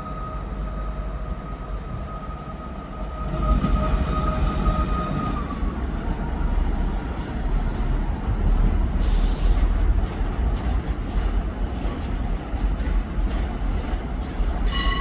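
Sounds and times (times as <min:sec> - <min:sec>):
diesel train rumbling: 0:00.0 - 0:15.0.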